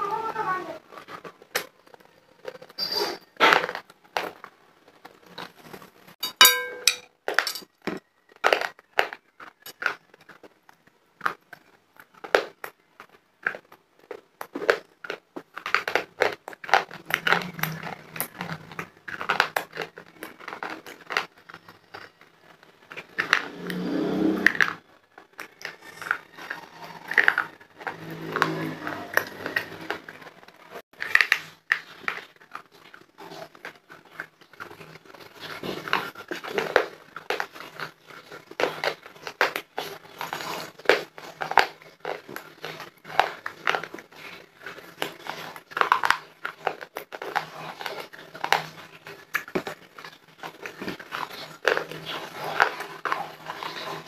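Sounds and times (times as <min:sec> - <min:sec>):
chalk crunching and chewing: 0:07.9 - 0:54.0.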